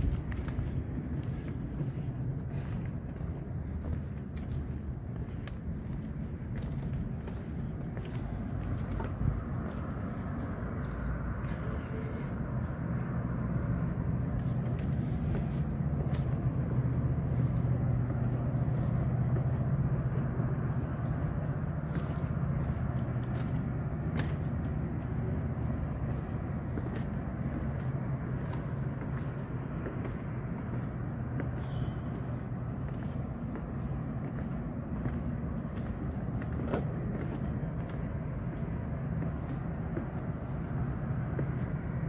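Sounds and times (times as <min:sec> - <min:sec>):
distant motor vehicle rumble: 0:00.0 - 0:42.0.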